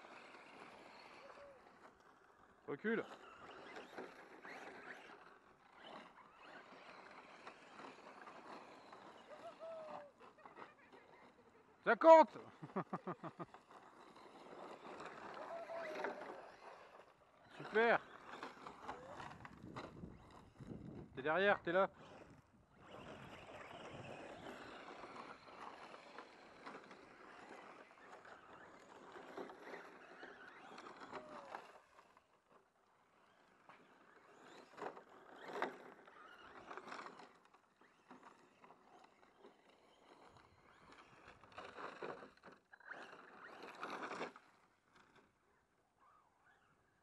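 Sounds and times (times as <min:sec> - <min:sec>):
faint electric motor whine: 0:00.0 - 0:47.0.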